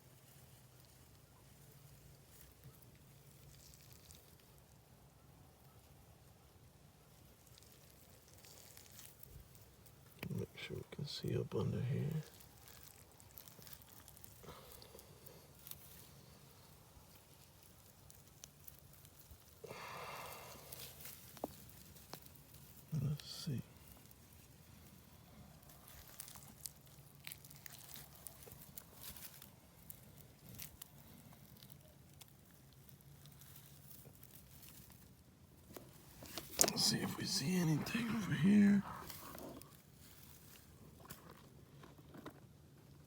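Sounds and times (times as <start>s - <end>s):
faint crackling and rustling: 0.0s - 43.0s.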